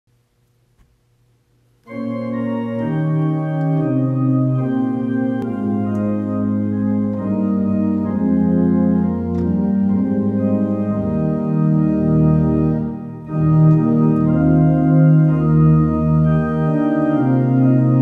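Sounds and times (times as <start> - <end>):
organ playing hymn chords: 1.8 - 18.0.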